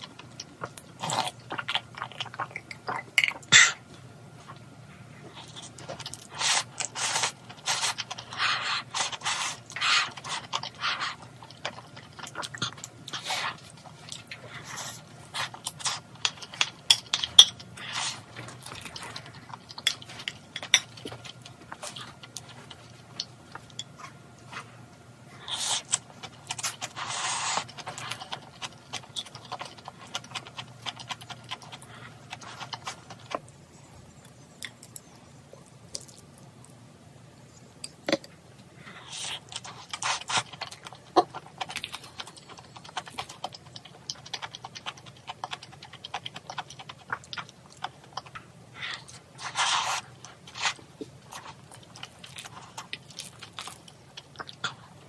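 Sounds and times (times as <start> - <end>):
chewing and slurping: 5.3 - 24.8, 25.4 - 36.6, 38.8 - 55.0.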